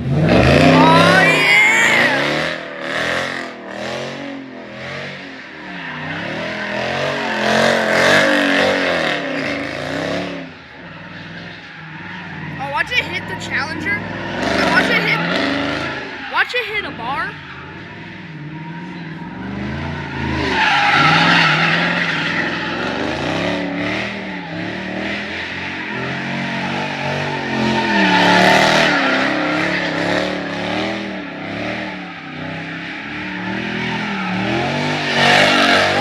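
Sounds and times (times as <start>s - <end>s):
car engine revving: 0.0s - 36.0s
tyres squealing and skidding: 0.0s - 36.0s.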